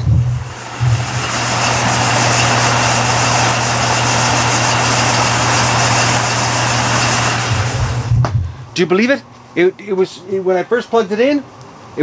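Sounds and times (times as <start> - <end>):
fan running with grinding: 0.0 - 12.0.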